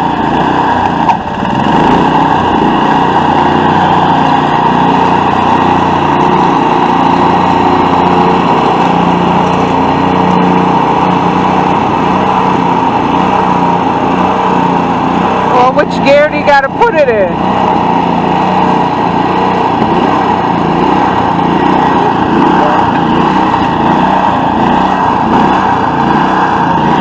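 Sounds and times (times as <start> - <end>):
small engine running steadily: 0.0 - 27.0.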